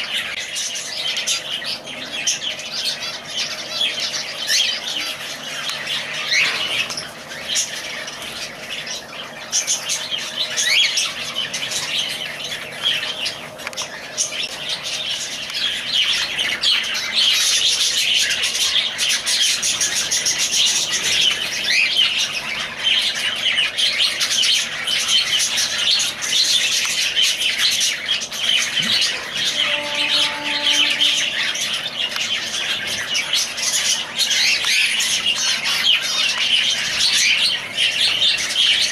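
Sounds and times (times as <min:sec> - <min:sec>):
lovebirds chattering and chirping: 0:00.0 - 0:38.9.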